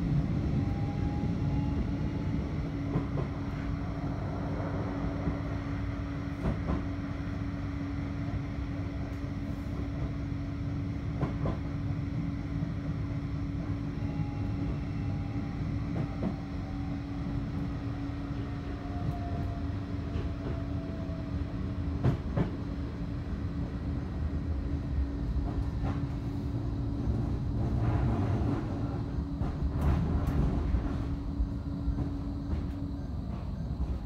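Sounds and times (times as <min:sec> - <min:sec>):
constant hum: 0:00.0 - 0:34.0
tram rumble: 0:00.0 - 0:34.0.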